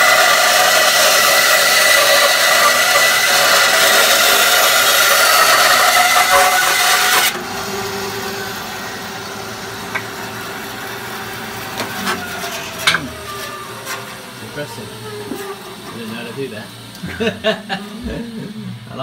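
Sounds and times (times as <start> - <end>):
bandsaw humming unloaded: 0.0 - 18.2
bandsaw cutting wood: 0.0 - 18.5.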